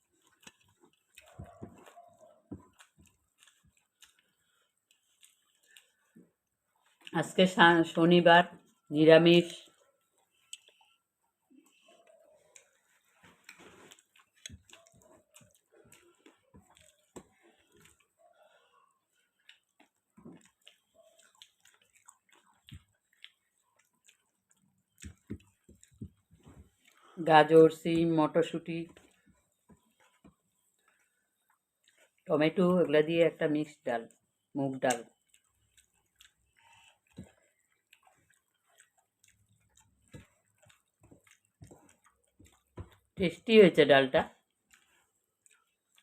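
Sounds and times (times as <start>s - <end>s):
clicks and smacks of eating: 0.0s - 7.2s, 9.4s - 32.3s, 34.1s - 43.4s, 44.3s - 46.0s
person chewing food: 0.0s - 7.2s, 9.5s - 27.3s, 28.9s - 32.3s, 34.1s - 43.2s, 44.3s - 46.0s.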